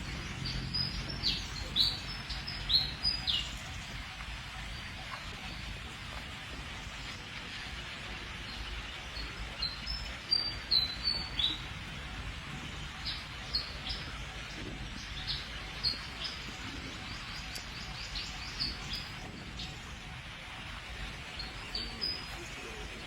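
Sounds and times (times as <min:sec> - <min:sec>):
birds chirping: 0:00.0 - 0:23.0
steady outdoor hiss: 0:00.0 - 0:23.0.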